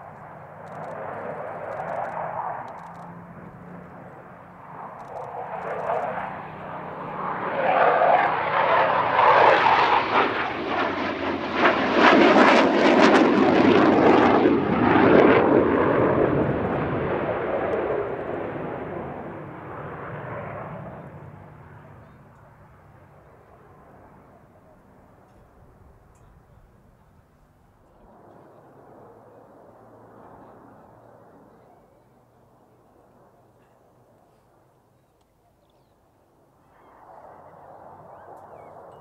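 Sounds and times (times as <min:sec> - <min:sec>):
jet roar: 0:00.0 - 0:34.8, 0:36.2 - 0:39.0
propeller plane engine: 0:00.0 - 0:34.8, 0:35.8 - 0:39.0.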